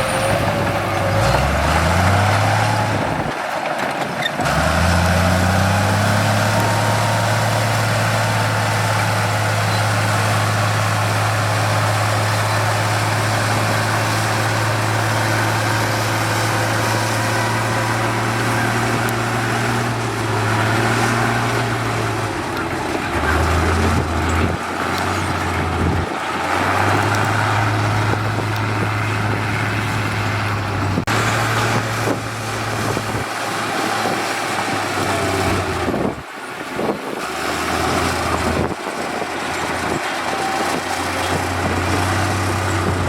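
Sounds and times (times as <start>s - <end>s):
diesel engine revving: 0.0s - 43.0s.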